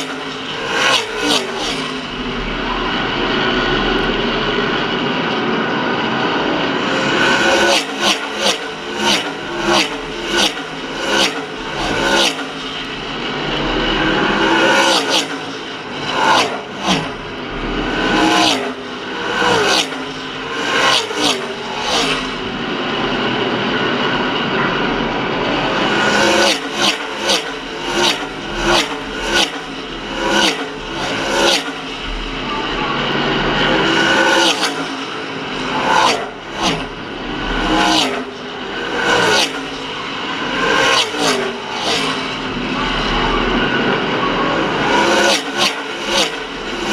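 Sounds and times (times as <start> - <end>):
race car engines in distance: 0.0 - 46.9
stock cars racing past: 0.0 - 46.9.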